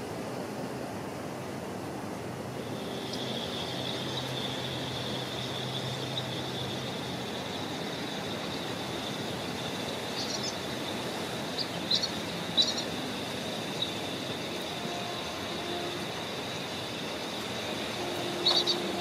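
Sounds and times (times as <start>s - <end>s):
distant noise: 2.5s - 19.0s
bird chirps: 2.7s - 19.0s.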